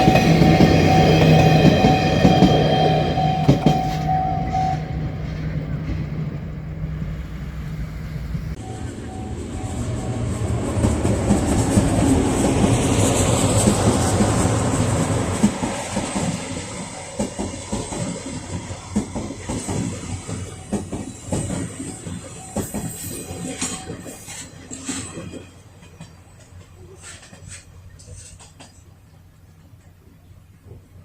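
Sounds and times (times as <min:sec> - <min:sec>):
wheels clattering over rail joints: 0:00.0 - 0:07.2, 0:10.8 - 0:31.0
train rumbling: 0:00.0 - 0:31.0.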